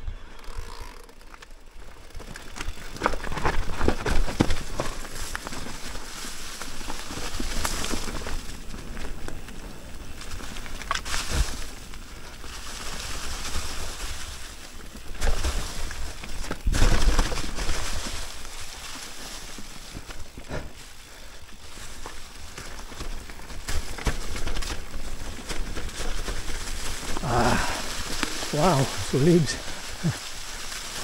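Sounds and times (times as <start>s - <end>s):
wind and tyre noise: 0.0s - 31.0s
bike knocks and rattles: 0.4s - 27.2s.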